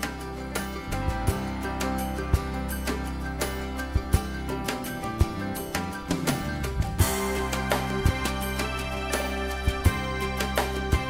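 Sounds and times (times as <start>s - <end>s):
background music with low notes: 0.0s - 11.0s.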